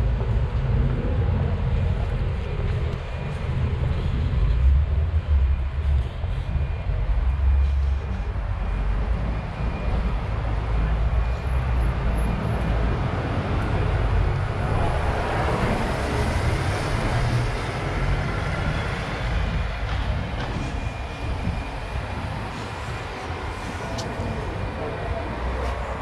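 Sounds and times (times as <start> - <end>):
bus passing: 0.0 - 26.0
city traffic rumbling: 0.0 - 26.0.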